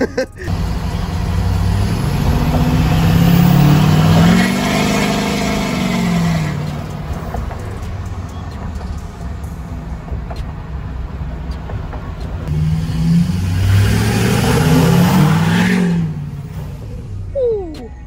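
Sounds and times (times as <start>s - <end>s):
diesel truck exhaust accelerating: 0.0s - 18.0s.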